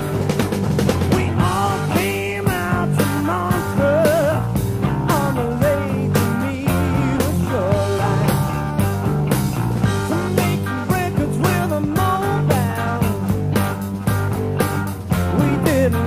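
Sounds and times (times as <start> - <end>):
rock song: 0.0 - 16.0
steady drum beat: 0.0 - 16.0.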